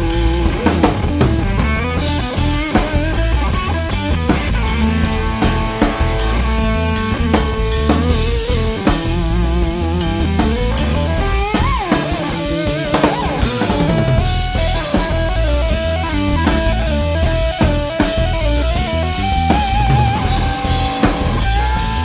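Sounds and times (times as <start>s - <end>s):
bass guitar: 0.0s - 22.0s
drum kit beat: 0.0s - 22.0s
electric guitar lead: 0.0s - 22.0s.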